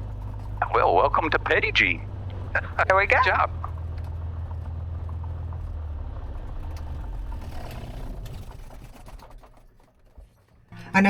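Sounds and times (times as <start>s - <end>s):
aircraft engine idling: 0.0s - 11.0s.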